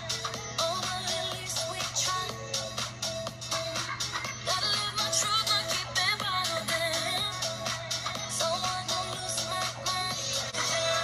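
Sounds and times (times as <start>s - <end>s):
upbeat dance-pop music: 0.0s - 11.0s.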